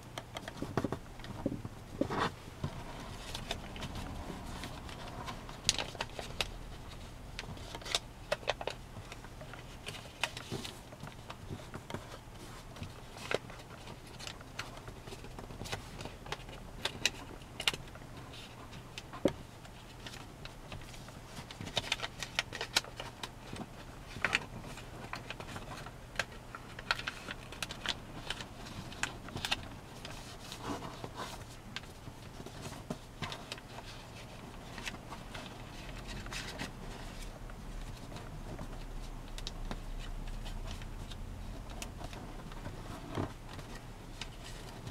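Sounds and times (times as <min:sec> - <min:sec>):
faint low hum: 0:00.0 - 0:44.9
paper folding and crinkling: 0:00.0 - 0:44.9.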